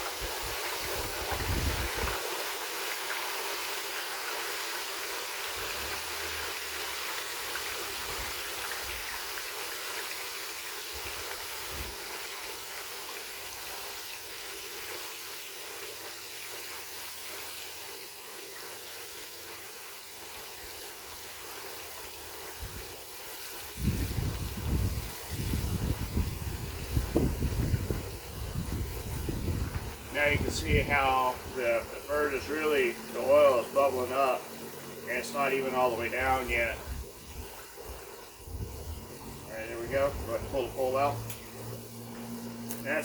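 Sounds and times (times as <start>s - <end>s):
hot oil bubbling and sizzling: 0.0s - 43.0s.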